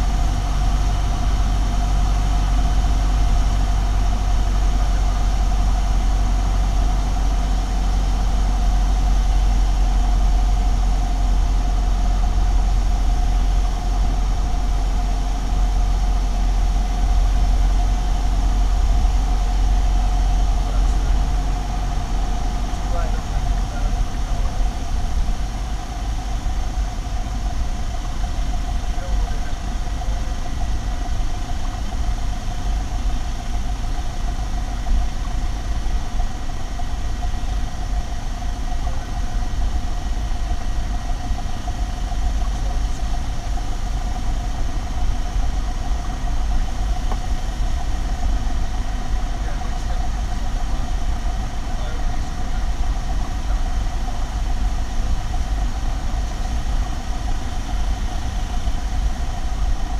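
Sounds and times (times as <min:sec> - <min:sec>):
propeller aircraft engine droning: 0:00.0 - 0:59.9.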